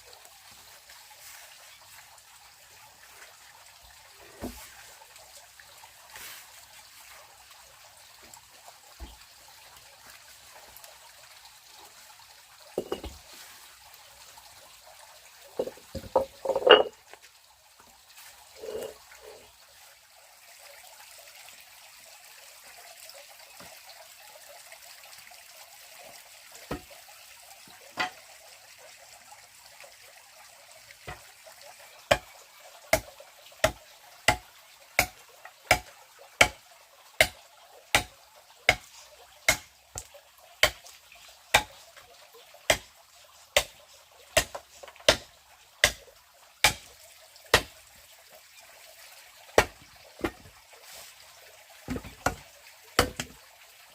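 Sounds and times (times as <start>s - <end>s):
trickle of running water: 0.0s - 53.9s.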